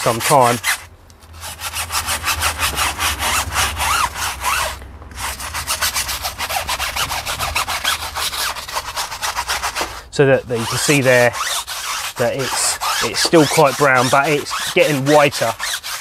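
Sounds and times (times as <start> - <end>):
brush scrubbing tyre rubber: 0.0 - 16.0.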